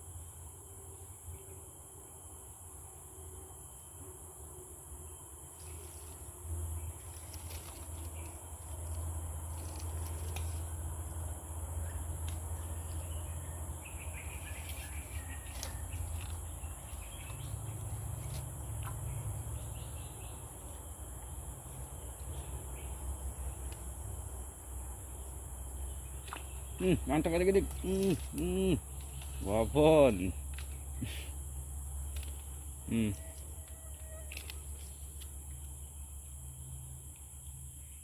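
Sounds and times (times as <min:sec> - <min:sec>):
insects buzzing: 0:00.0 - 0:38.0.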